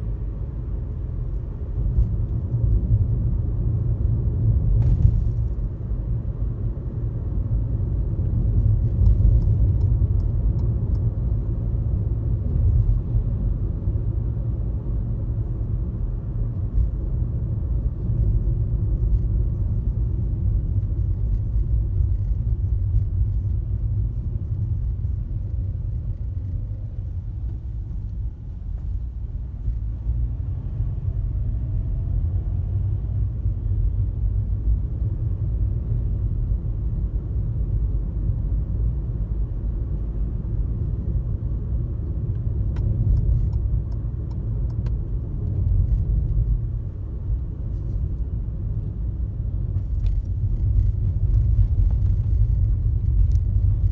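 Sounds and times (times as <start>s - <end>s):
road and tyre noise: 0.0s - 53.9s.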